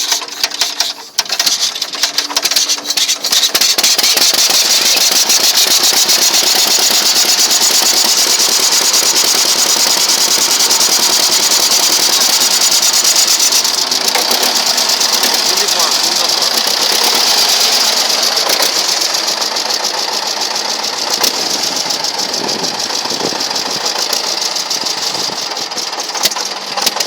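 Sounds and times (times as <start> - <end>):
tractor engine starting: 0.0 - 27.0.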